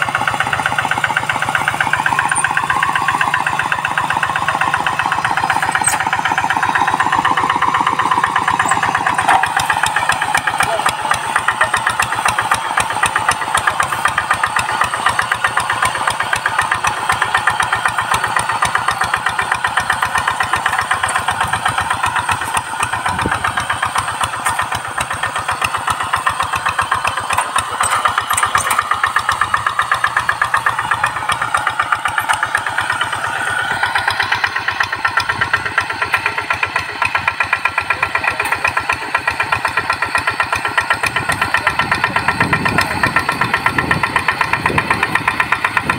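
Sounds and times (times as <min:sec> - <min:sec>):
diesel engine chugging: 0:00.0 - 0:45.9.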